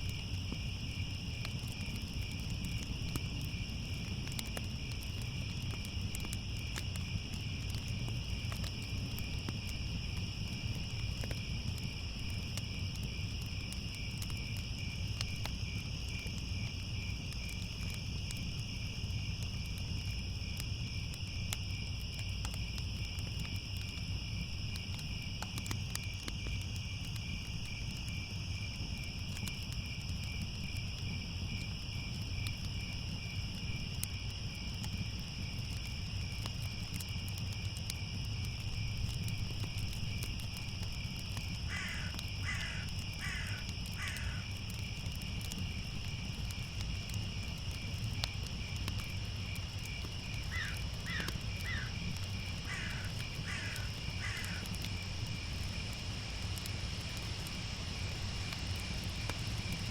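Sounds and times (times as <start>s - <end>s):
crickets trilling: 0.0s - 59.9s
low rumble with faint crackles: 0.0s - 59.9s.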